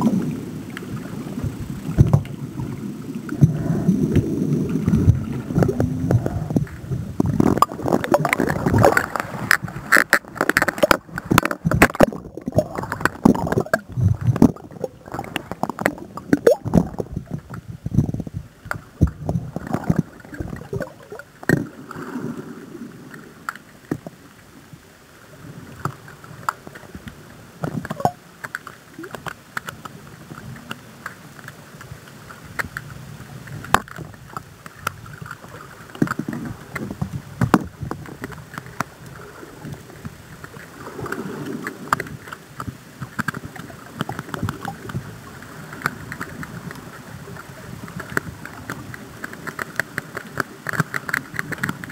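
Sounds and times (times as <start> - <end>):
underwater sloshing and bubbling: 0.0 - 51.9.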